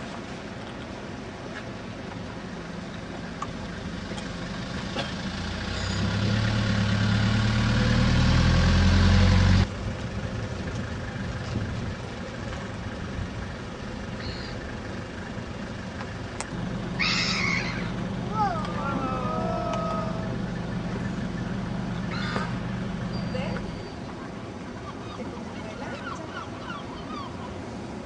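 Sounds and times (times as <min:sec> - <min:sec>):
car engine: 0:00.4 - 0:24.8.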